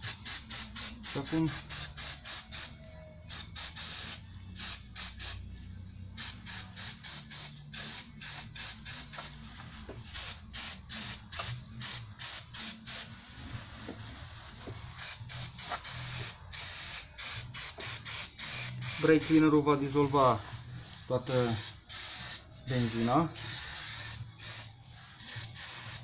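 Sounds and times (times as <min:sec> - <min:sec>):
aerosol spray hissing bursts: 0:00.0 - 0:05.4, 0:06.2 - 0:09.4, 0:10.0 - 0:13.2, 0:14.5 - 0:19.5, 0:21.3 - 0:26.0.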